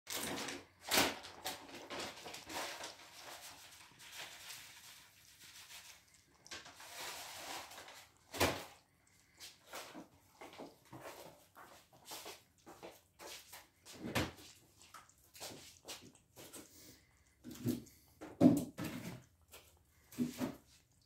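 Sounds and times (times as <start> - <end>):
cats lapping milk: 0.1 - 21.0.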